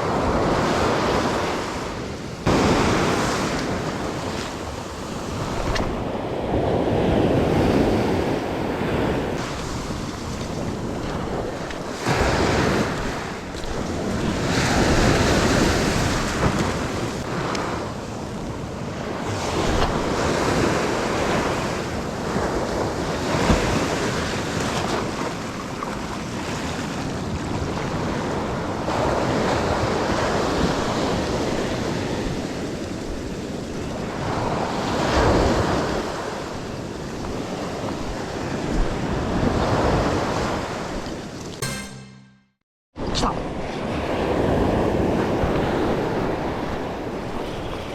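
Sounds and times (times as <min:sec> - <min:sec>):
sea waves breaking on beach: 0:00.0 - 0:41.4.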